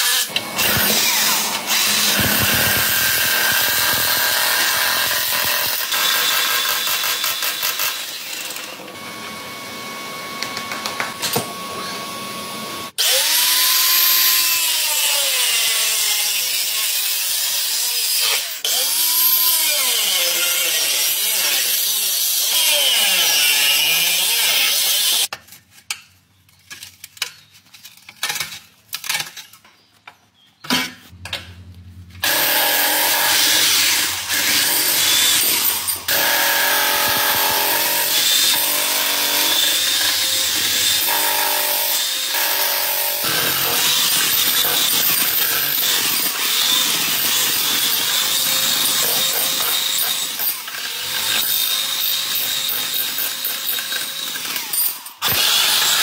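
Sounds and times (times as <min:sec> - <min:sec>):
angle grinder cutting metal: 0:00.0 - 0:25.3, 0:32.2 - 0:56.0
power tool on metal: 0:00.0 - 0:25.3, 0:32.2 - 0:56.0.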